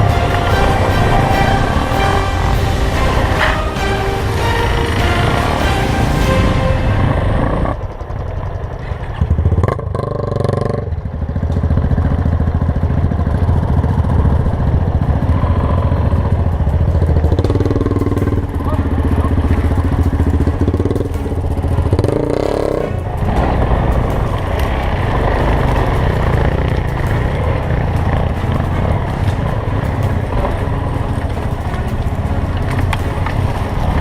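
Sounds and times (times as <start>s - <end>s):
motorcycle engine riding: 0.0s - 34.0s.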